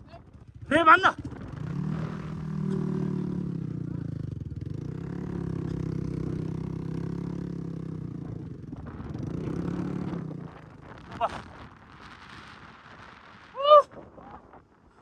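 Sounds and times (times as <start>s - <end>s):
dirt bike engine running: 0.0s - 13.5s.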